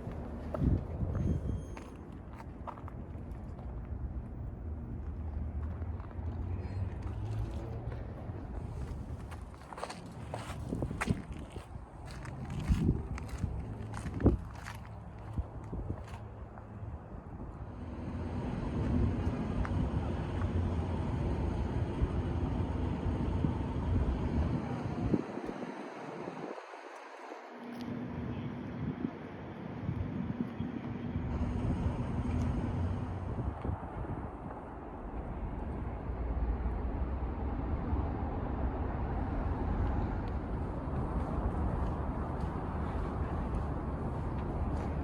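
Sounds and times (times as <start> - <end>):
large vehicle engine rumble: 0.0 - 45.0.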